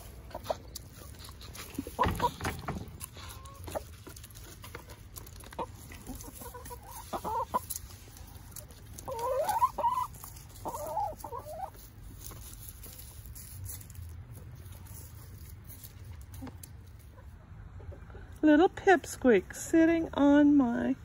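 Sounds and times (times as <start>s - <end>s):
hens clucking: 0.0s - 13.3s, 14.6s - 18.4s.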